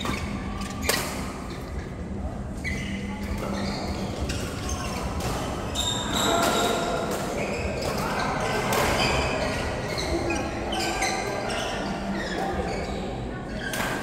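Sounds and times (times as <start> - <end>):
voices in background: 0.0 - 14.0.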